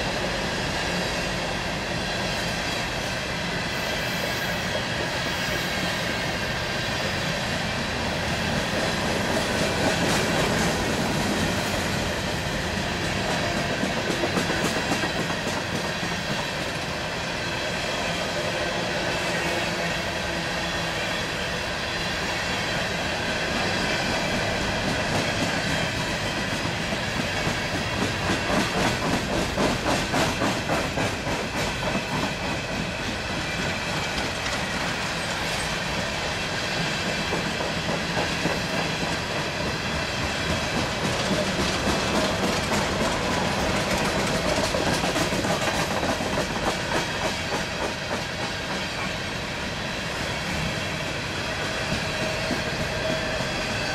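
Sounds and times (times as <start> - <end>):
train wheels clickety-clack: 0.0 - 53.9.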